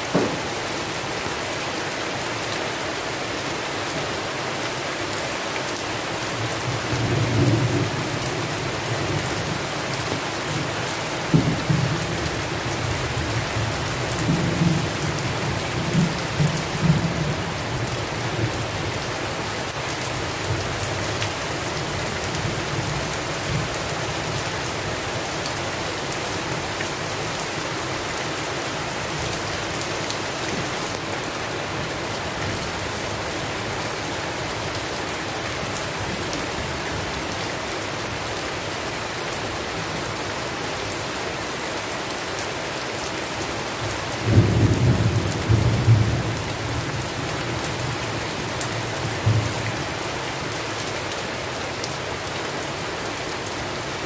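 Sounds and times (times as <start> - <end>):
heavy rain on a surface: 0.0 - 54.0.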